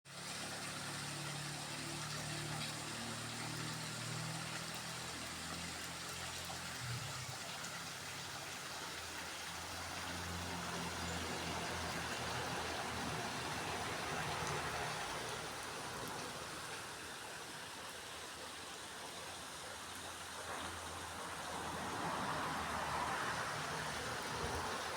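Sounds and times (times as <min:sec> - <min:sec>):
small waterfall pouring into pool: 0:00.1 - 0:24.9.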